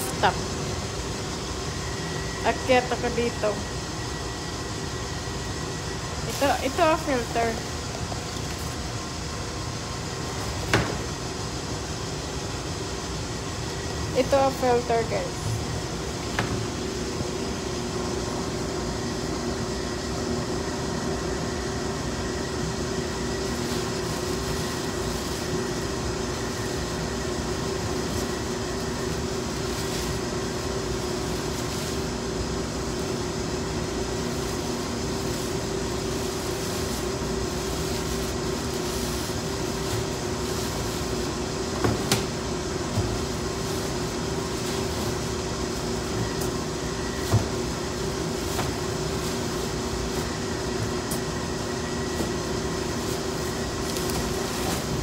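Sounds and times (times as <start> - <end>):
hvac equipment humming: 0.0 - 55.0.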